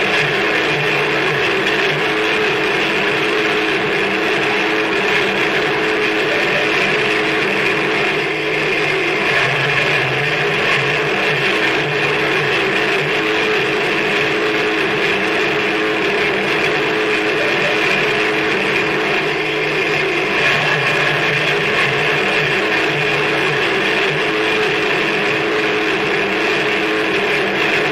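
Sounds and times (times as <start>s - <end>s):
low droning tones: 0.0s - 27.9s.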